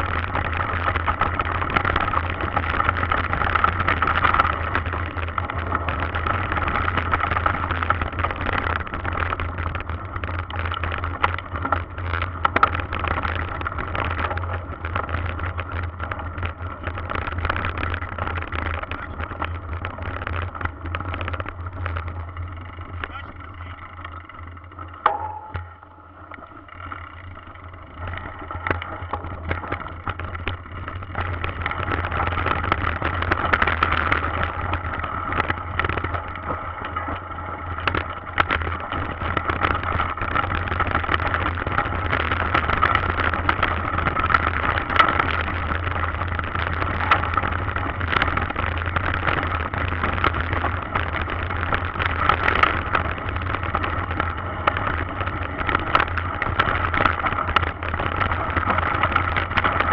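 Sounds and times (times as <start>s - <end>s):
bike rattling over bumps: 0.0s - 59.9s
bike tyre and wind noise: 0.0s - 59.9s.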